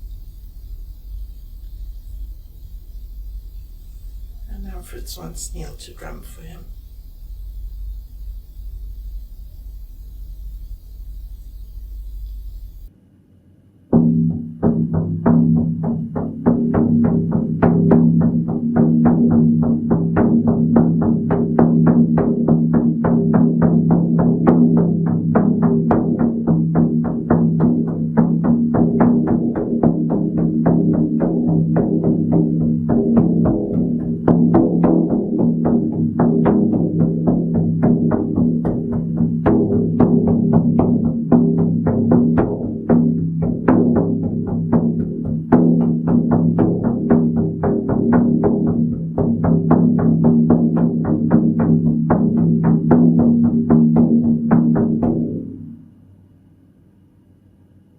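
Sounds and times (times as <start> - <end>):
hand drum beating: 0.0 - 12.9, 14.0 - 55.5.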